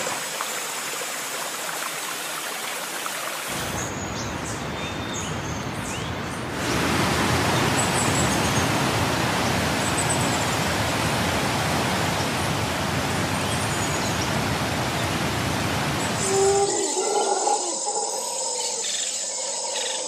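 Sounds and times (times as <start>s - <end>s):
waterfall rushing: 0.0s - 4.3s, 6.4s - 18.8s.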